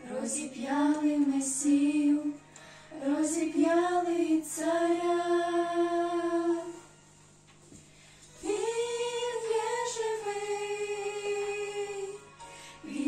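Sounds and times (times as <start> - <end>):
women singing a hymn: 0.0 - 7.0, 8.4 - 13.0.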